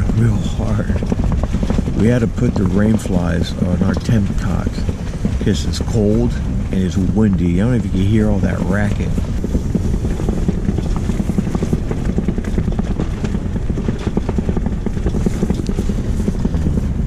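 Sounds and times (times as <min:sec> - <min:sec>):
tent walls flapping in wind: 0:00.0 - 0:17.0.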